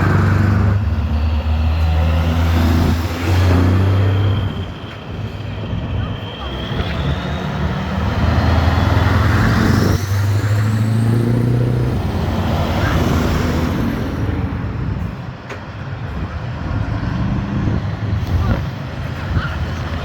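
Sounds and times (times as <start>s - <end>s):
truck engine driving by: 0.0s - 20.0s.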